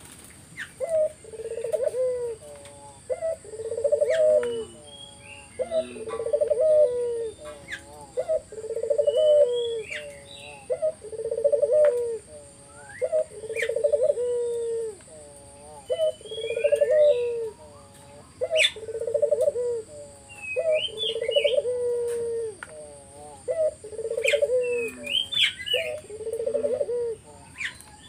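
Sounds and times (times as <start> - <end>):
dove cooing: 0.0 - 28.0
small birds chirping: 0.0 - 28.0.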